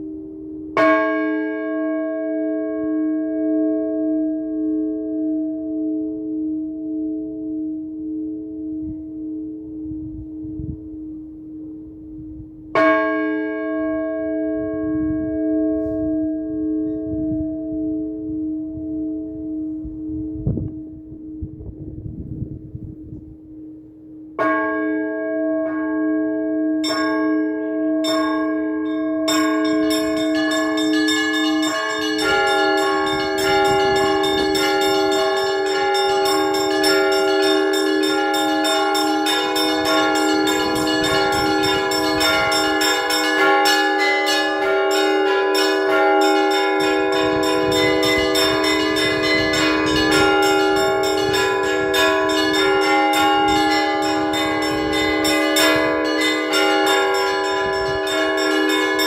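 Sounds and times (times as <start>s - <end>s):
church bell strikes: 0.0s - 9.7s, 12.7s - 20.1s, 24.2s - 59.0s
church bells pealing: 0.0s - 9.7s, 12.7s - 20.1s, 24.3s - 59.0s
steady low bell tone: 0.0s - 59.0s.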